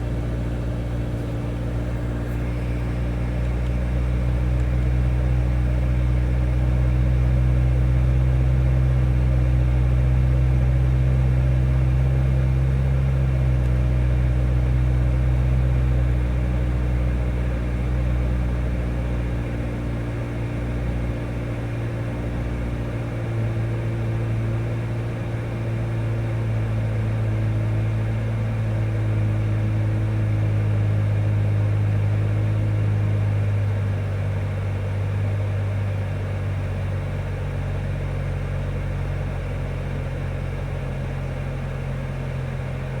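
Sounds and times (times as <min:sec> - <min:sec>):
car engine idling: 0:00.0 - 0:18.5, 0:25.6 - 0:43.0.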